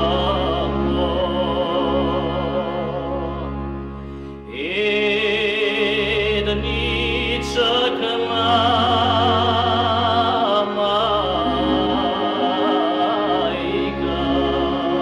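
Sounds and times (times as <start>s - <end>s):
folk singing: 0.0s - 3.6s, 4.5s - 15.0s
steady drone: 0.0s - 15.0s.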